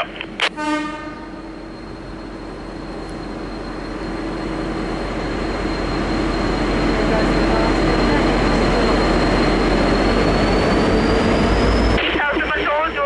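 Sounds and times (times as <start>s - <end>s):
diesel locomotive engine: 0.0s - 13.0s.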